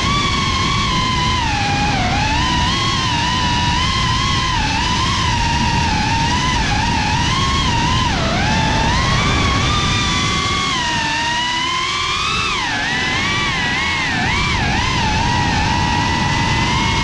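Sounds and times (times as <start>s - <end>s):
drone motors whining: 0.0s - 17.0s
low wind rumble: 0.0s - 17.0s.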